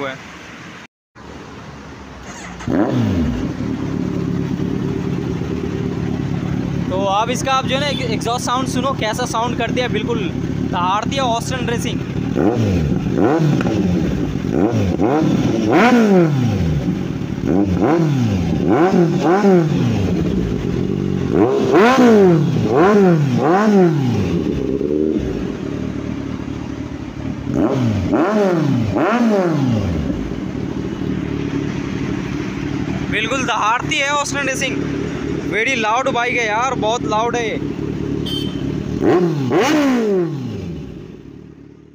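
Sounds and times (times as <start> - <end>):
motorcycle engine revving: 2.2 - 41.9.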